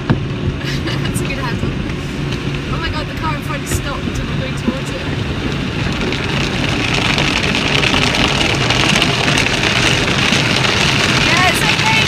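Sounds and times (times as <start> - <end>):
car wash spray and scrubbing: 0.0 - 12.0.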